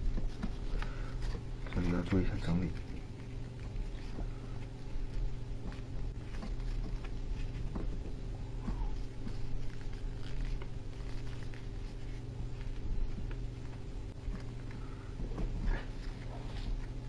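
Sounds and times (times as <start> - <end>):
paper rustling and crinkling: 0.0 - 17.0
steady low hum: 0.0 - 17.0.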